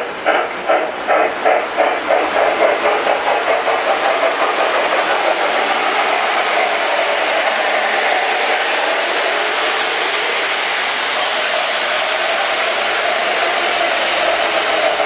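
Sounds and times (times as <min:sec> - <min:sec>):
model steam locomotive chuffing: 0:00.0 - 0:15.0
steady steam hiss: 0:00.0 - 0:15.0.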